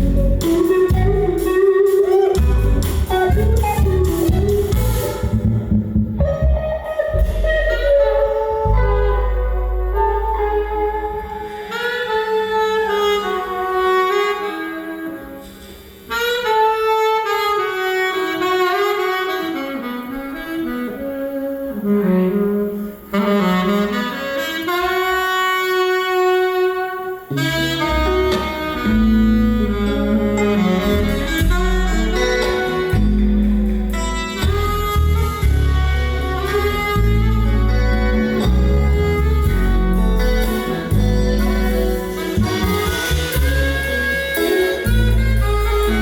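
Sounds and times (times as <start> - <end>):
band with bass: 0.0 - 46.0
saxophone solo: 0.0 - 46.0.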